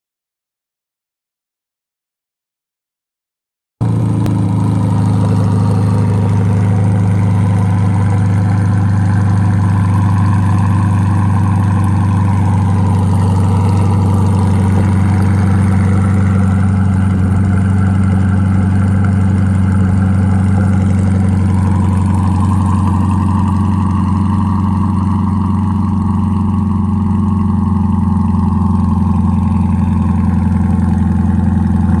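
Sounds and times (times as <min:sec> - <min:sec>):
car engine starting and idling: 0:03.8 - 0:32.0.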